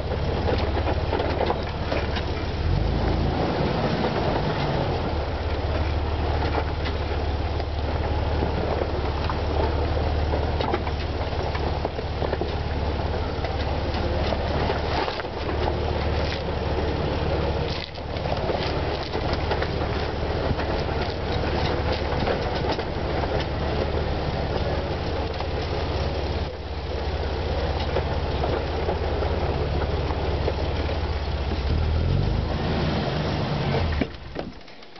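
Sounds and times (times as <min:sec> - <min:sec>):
tyres on dirt and mud: 0:00.0 - 0:34.9
vehicle engine running: 0:00.0 - 0:34.9
vehicle rattles and clicks: 0:00.0 - 0:34.9.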